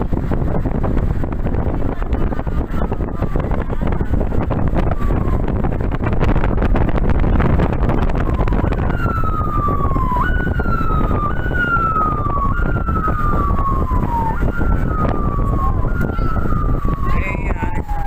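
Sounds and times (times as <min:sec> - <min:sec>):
loud low rumble: 0:00.0 - 0:18.0
siren sweeping down in pitch: 0:01.5 - 0:18.0.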